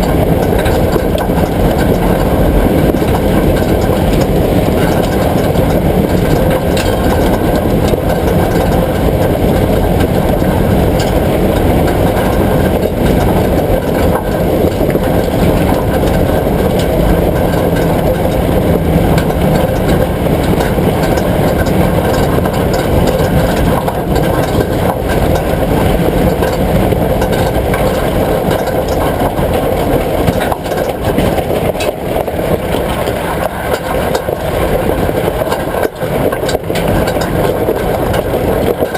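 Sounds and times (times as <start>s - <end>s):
vehicle engine low rumble: 0.0s - 38.9s.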